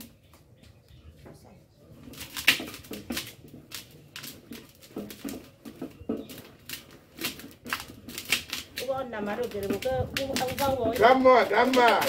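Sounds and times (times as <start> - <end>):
mash scraping across a mesh sieve: 2.0 - 12.0.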